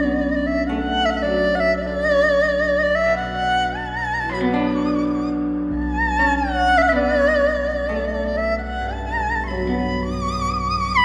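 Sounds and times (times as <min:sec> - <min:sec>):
instrumental music with vibrato melody: 0:00.0 - 0:11.0.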